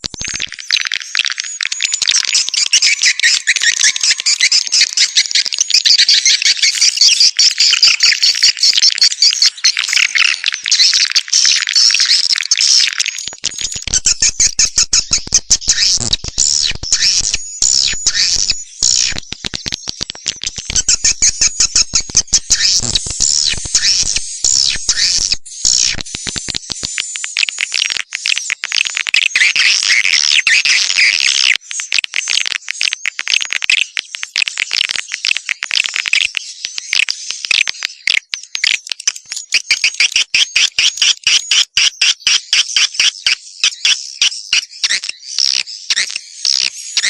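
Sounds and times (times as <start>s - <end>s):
swiftlets twittering and chirping: 0.0s - 47.0s.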